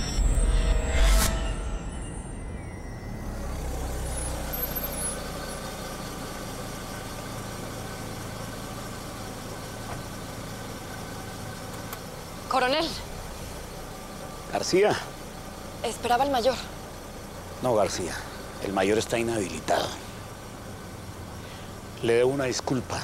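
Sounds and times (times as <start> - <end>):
low outdoor rumble: 1.8 - 23.0
vehicle engine idling: 2.7 - 23.0.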